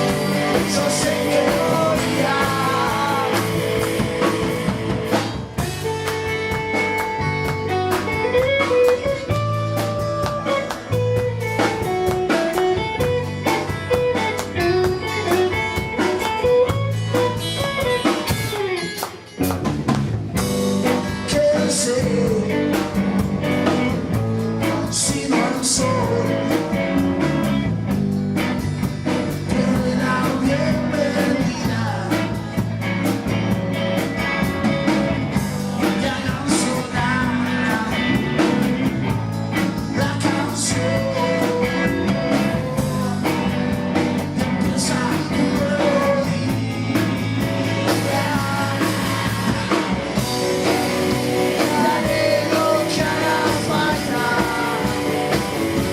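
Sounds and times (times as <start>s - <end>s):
drums: 0.0s - 55.9s
guitar: 0.0s - 55.9s
live band playing: 0.0s - 55.9s.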